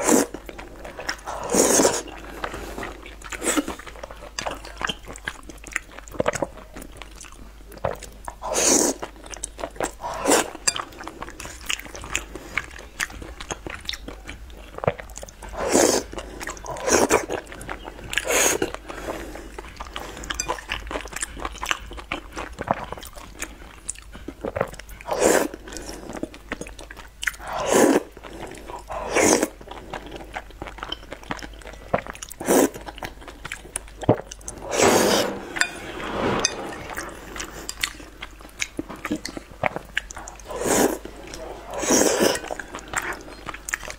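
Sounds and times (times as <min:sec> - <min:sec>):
chewing and wet mouth sounds: 0:00.0 - 0:34.6, 0:37.5 - 0:43.9.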